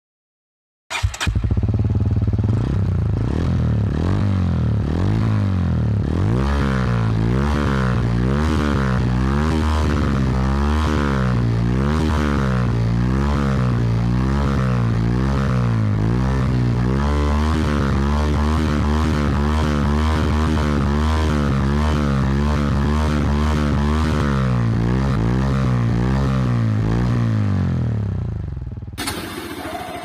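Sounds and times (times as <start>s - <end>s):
motorcycle engine running: 0.9s - 30.0s.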